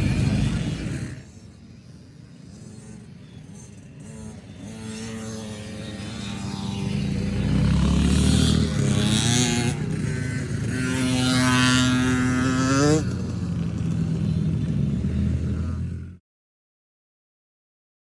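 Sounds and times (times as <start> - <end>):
pit bike engine revving: 0.0 - 16.2.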